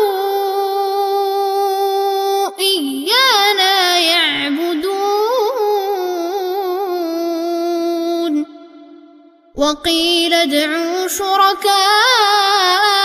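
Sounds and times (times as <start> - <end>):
boy chanting recitation: 0.0 - 8.9, 9.5 - 13.0.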